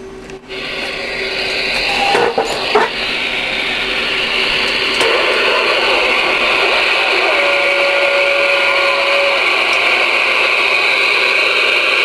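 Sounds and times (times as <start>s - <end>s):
radio static: 0.5s - 12.0s.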